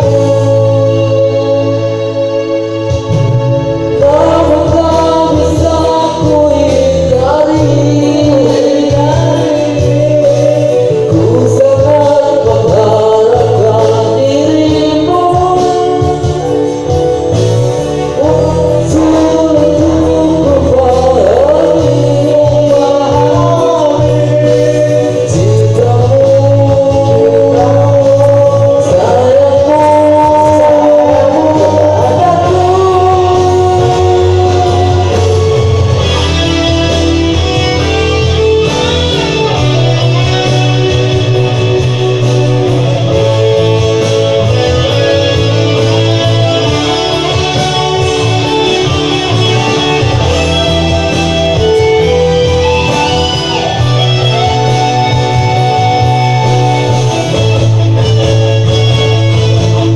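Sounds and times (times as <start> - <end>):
instrumental accompaniment: 0.0 - 59.9
person singing: 0.0 - 59.9.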